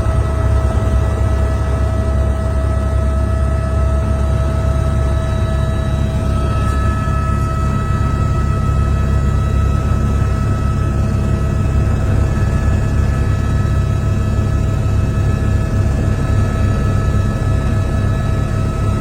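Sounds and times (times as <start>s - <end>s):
helicopter running: 0.0s - 19.0s.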